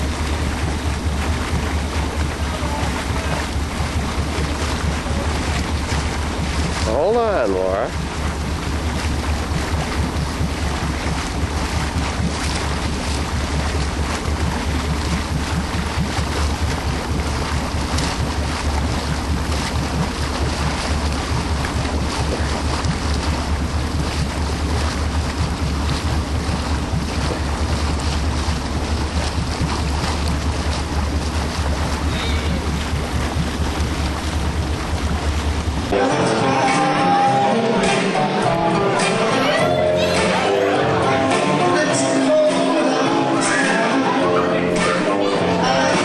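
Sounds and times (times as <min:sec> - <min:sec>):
steady low drone: 0:00.0 - 0:46.0
water rushing around boat: 0:00.0 - 0:46.0.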